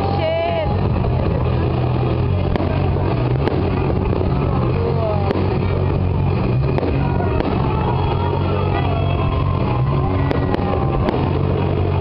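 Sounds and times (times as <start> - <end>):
loud rumbling din: 0.0 - 12.0
sharp firework cracks: 0.0 - 12.0.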